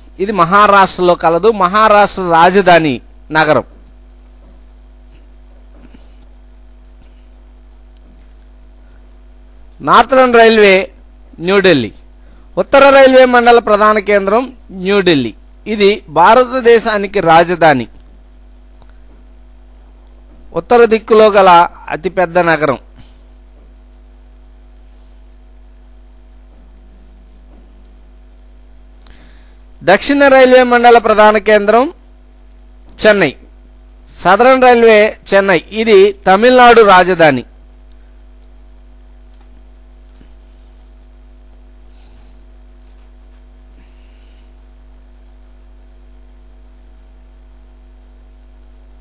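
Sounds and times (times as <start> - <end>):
electrical hum: 0.0 - 49.0
faint steady tones: 0.0 - 49.0
rapid high-pitched ticking: 0.0 - 49.0.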